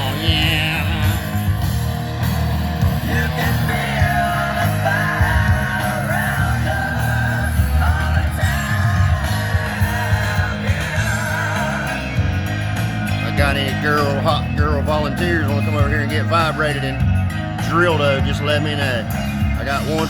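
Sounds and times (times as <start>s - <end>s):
rock song with singer and guitar: 0.0s - 20.0s.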